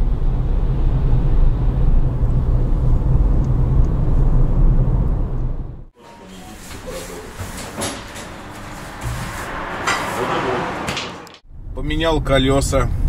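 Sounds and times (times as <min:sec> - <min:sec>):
car engine and road rumble: 0:00.0 - 0:05.9, 0:07.2 - 0:13.0.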